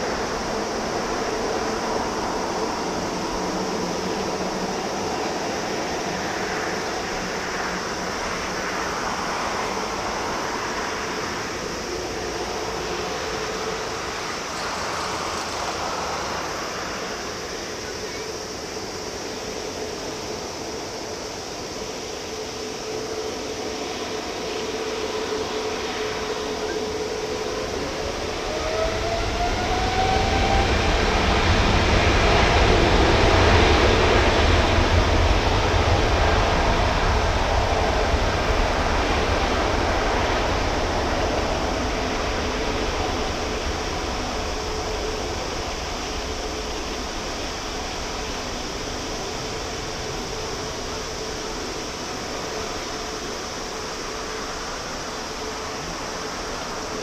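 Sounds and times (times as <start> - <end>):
jet engines whining: 0.0 - 57.0
jet takeoff rumble: 0.0 - 57.0.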